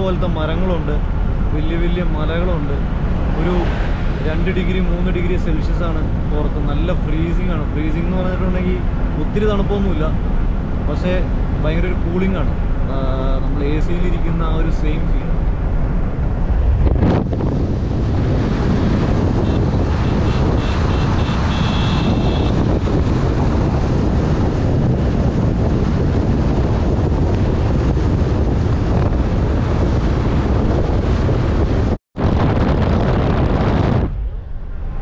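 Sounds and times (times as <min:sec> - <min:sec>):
highway road noise: 0:00.0 - 0:35.0
wind rush on microphone: 0:00.0 - 0:35.0.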